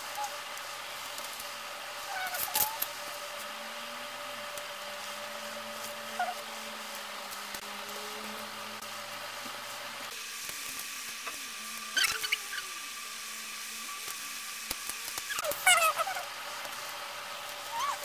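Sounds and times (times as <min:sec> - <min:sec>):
room appliance hum: 0:00.0 - 0:18.0.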